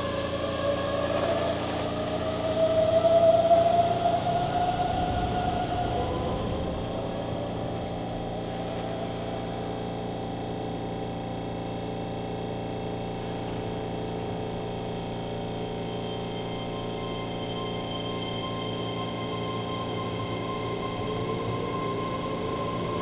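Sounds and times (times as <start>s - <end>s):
train running noise: 0.0s - 23.0s.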